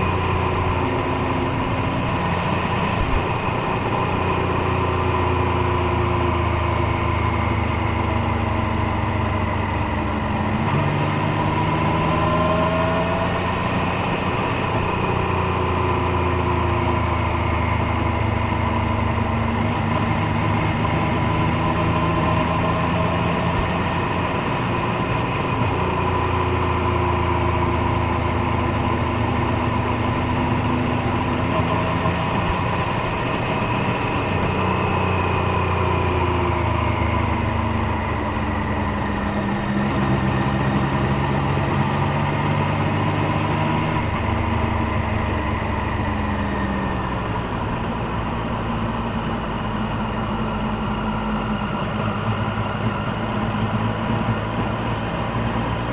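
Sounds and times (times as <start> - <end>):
motorcycle engine and exhaust: 0.0 - 55.9
road and wind noise: 0.0 - 55.9.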